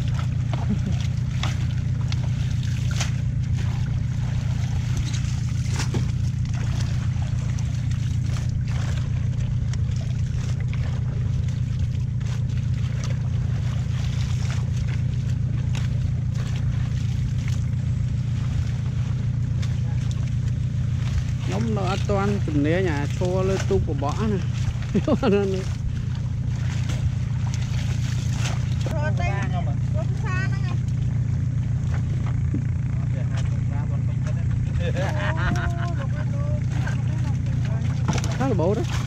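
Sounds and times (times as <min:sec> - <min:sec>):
steady low drone: 0:00.0 - 0:39.0
water splashing and sloshing: 0:00.0 - 0:39.0.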